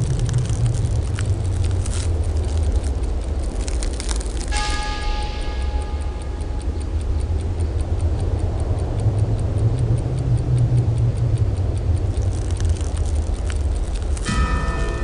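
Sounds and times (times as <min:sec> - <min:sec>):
fast faint ticking: 0:00.0 - 0:15.0
low rumbling drone: 0:00.0 - 0:15.0.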